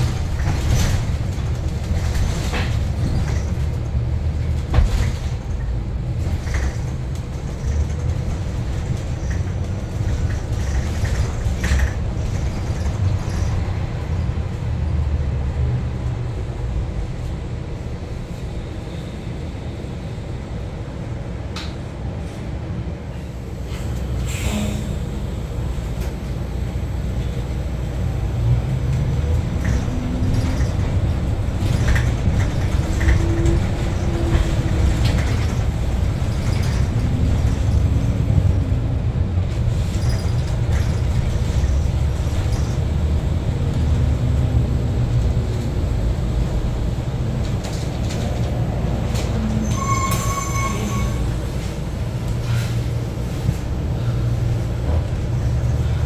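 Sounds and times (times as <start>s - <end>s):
bus road rumble: 0.0s - 56.0s.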